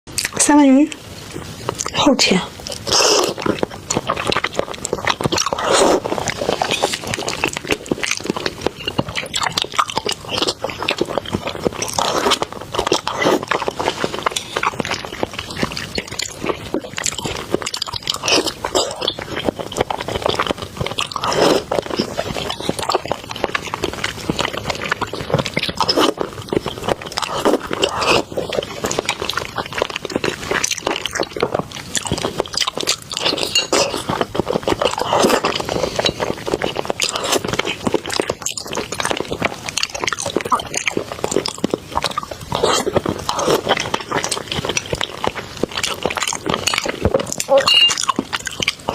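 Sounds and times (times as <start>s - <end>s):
person chewing food: 0.1s - 48.9s.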